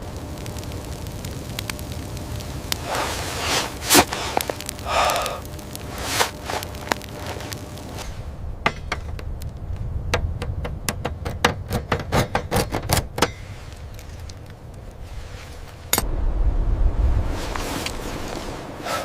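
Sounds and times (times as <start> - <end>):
low rumble: 0.0 - 11.2, 13.3 - 19.0.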